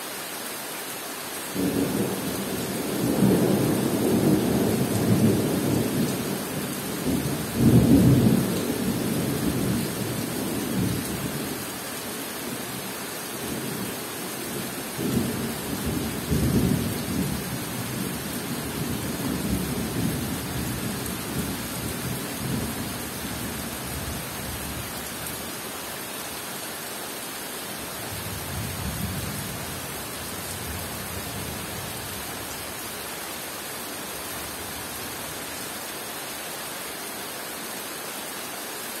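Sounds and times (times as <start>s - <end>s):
rain on foliage: 0.0s - 39.0s.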